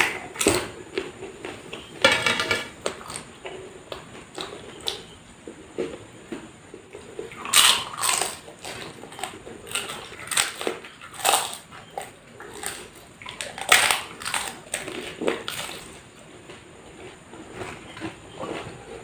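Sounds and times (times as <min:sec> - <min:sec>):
chewing crisp food: 0:02.8 - 0:19.0.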